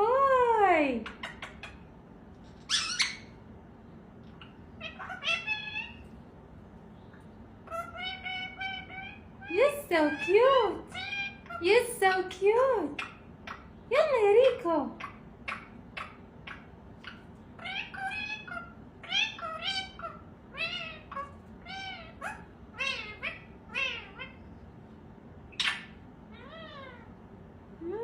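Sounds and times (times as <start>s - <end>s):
parakeet calling: 1.0s - 2.0s, 2.6s - 3.5s, 4.2s - 6.2s, 7.0s - 24.7s, 25.5s - 27.2s.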